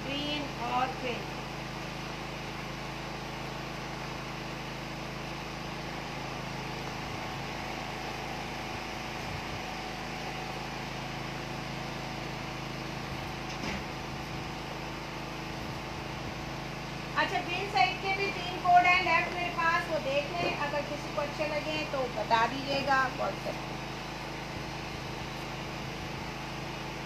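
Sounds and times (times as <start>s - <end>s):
room noise hum and hiss: 0.0s - 27.0s.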